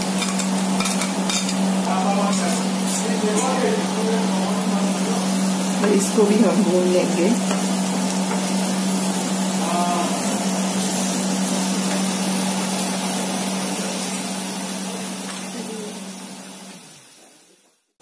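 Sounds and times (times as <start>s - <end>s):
onions sizzling in oil: 0.0s - 17.9s.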